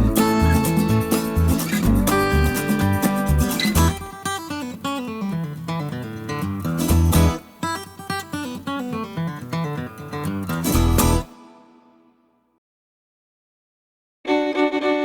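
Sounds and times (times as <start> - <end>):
plucked guitar music with beat: 0.0 - 12.1.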